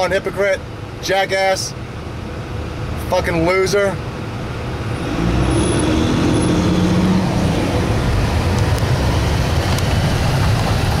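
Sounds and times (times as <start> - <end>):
road noise: 0.0 - 11.0
vehicle engine: 1.6 - 11.0.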